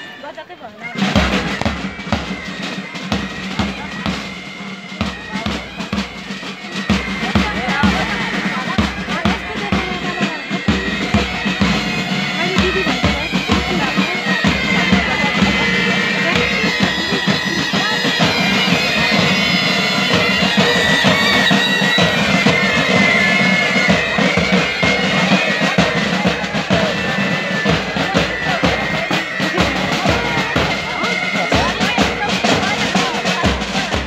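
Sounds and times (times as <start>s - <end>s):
bagpipe melody with drone: 0.0s - 34.0s
marching drums: 0.0s - 34.0s.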